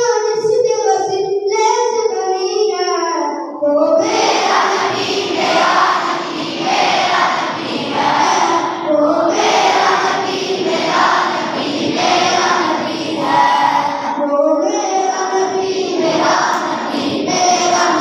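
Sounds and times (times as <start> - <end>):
boy singing through loudspeaker: 0.0 - 18.0.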